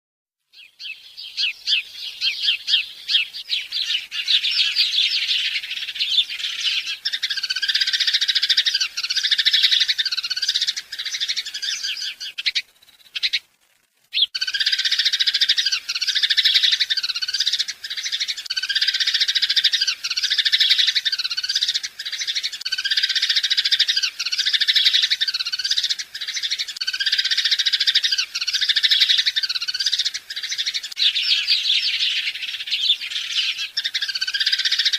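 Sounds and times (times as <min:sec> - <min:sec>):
repeated bird call: 0:00.5 - 0:13.4, 0:14.1 - 0:34.9
birds chirping in chorus: 0:00.5 - 0:13.5, 0:14.1 - 0:34.9.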